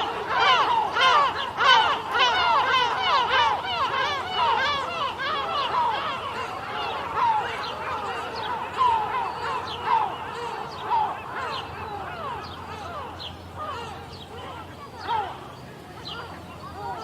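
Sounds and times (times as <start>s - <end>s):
seagulls calling: 0.0s - 17.0s.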